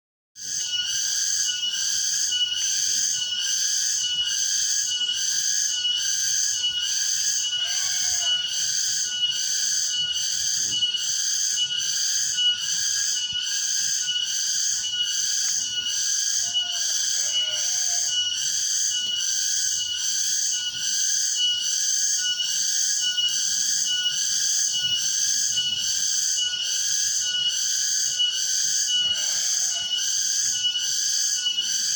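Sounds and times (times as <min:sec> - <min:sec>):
cicada buzzing: 0:00.4 - 0:31.9.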